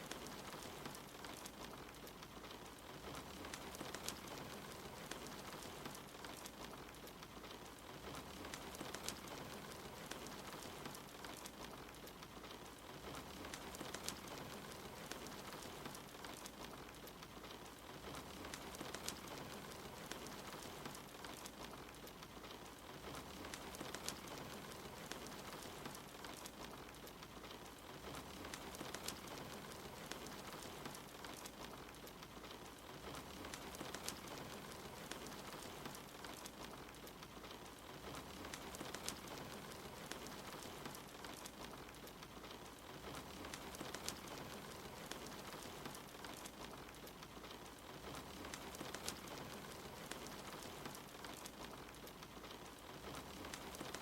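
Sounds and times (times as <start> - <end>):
log fire crackling and popping: 0.0 - 54.0
steady rain hissing: 0.0 - 54.0.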